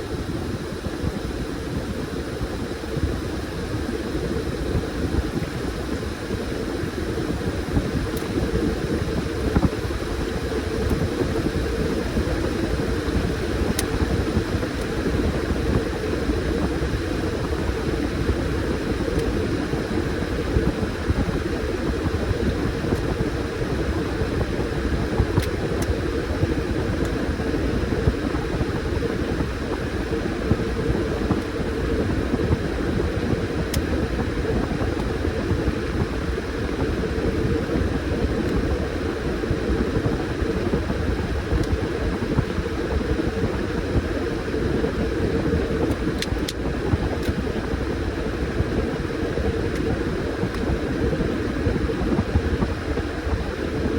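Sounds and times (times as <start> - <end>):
washing machine running: 0.0 - 53.9.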